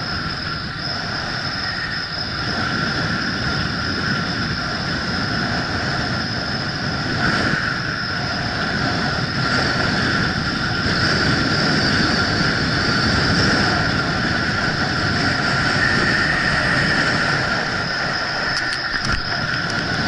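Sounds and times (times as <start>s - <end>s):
wind rushing over camera: 0.0s - 20.0s.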